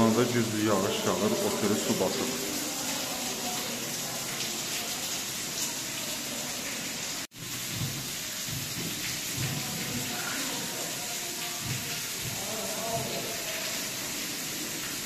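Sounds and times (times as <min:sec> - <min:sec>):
heavy rainwater pouring: 0:00.0 - 0:15.0.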